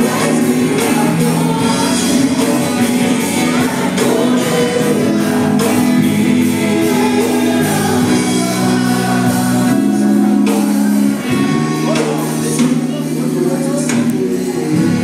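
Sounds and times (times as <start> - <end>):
band playing: 0.0 - 15.0
group singing gospel: 0.0 - 15.0.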